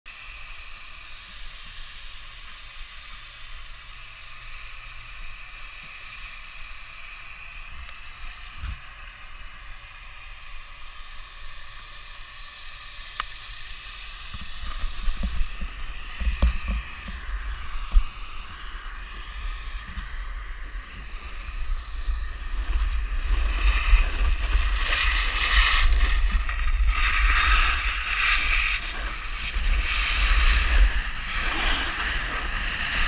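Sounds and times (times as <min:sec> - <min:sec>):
muffled wind hiss: 0:00.1 - 0:33.0
snowboard sliding over snow: 0:00.1 - 0:33.0.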